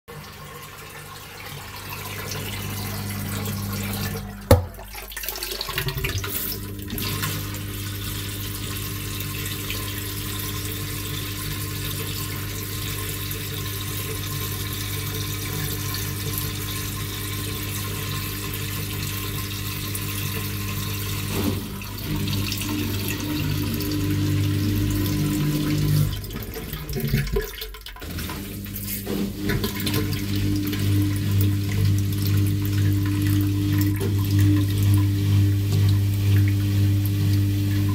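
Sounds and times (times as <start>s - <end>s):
drain pump humming: 0.1s - 37.9s.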